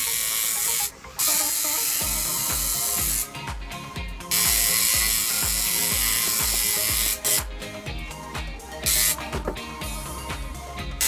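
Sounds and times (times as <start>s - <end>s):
tattoo machine buzzing: 0.0s - 11.0s.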